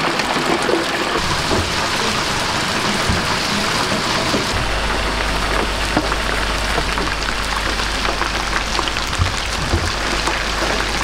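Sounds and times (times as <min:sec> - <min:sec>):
low hum: 0:01.2 - 0:11.0.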